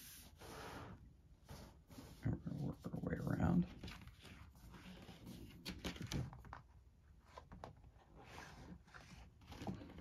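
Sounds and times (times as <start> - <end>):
paper mat rustling: 0.0 - 10.0.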